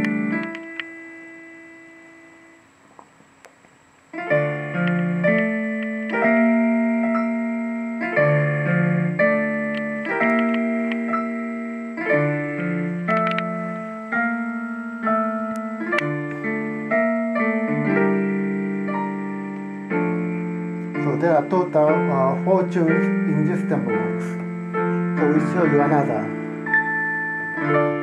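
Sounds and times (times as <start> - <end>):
electronic piano tune: 0.0 - 28.0.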